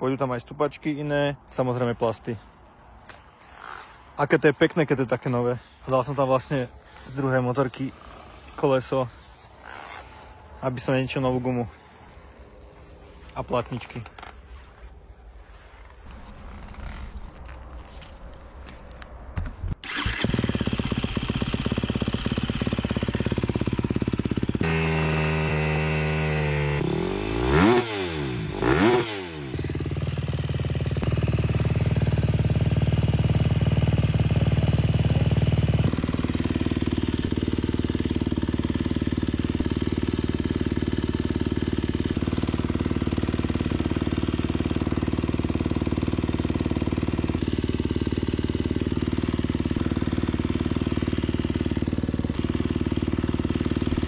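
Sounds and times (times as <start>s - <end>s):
motorcycle engine starting and idling: 1.6s - 14.9s, 15.5s - 54.0s.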